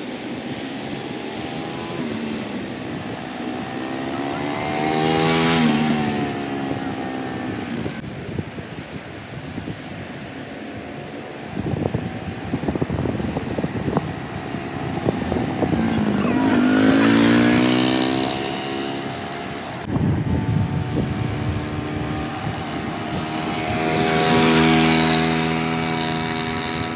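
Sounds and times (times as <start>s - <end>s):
small motorcycle engine passing: 0.0s - 8.0s, 12.0s - 26.9s.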